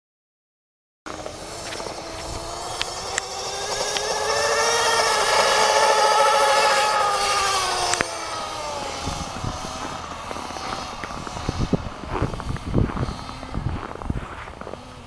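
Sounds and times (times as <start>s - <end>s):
small nitro engine passing by: 1.1s - 15.0s.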